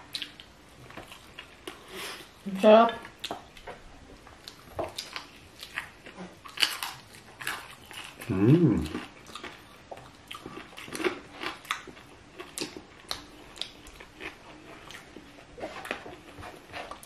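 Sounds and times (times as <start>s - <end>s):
chewing crunchy food: 0.0s - 2.2s, 3.0s - 17.0s.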